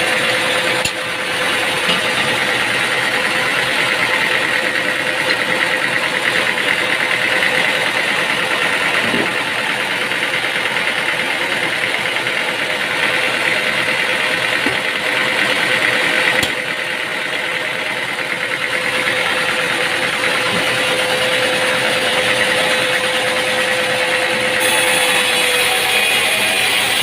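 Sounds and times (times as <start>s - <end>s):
machinery engine humming: 0.0s - 24.6s.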